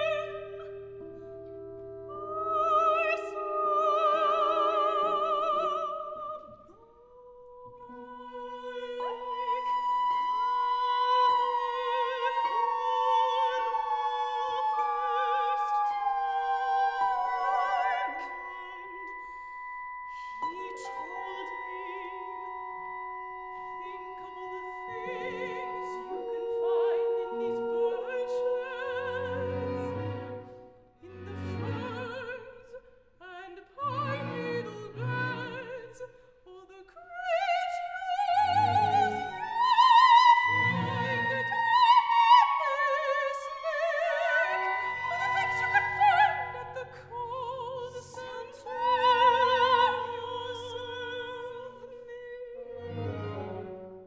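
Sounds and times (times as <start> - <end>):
operatic woman singing: 0.0 - 0.9, 2.1 - 53.6
woodwinds and strings ensemble: 0.0 - 6.4, 7.8 - 32.5, 37.0 - 54.0.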